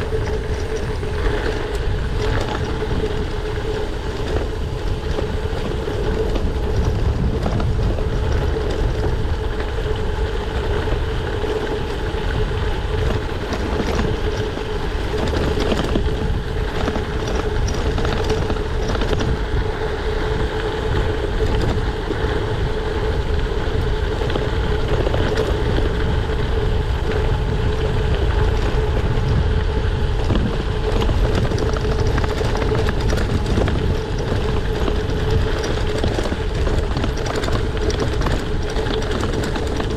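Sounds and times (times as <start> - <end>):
bike tyres rumbling on gravel: 0.0 - 39.9
constant hum: 0.0 - 39.9
wind buffeting microphone: 0.0 - 39.9.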